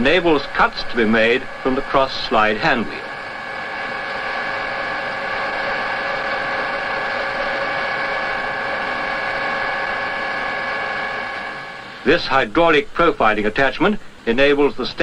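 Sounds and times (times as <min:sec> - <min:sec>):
lathe humming and whining: 0:00.0 - 0:15.0.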